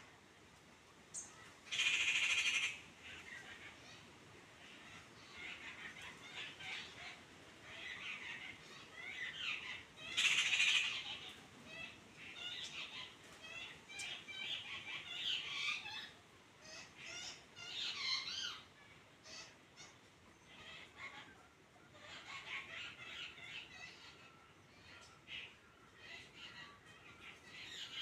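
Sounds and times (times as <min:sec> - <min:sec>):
birds chattering: 0:01.1 - 0:28.0.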